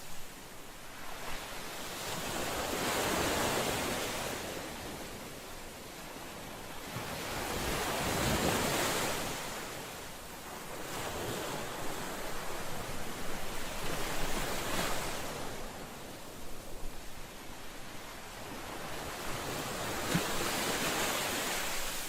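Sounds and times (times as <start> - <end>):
ocean waves washing ashore: 0.0 - 22.0.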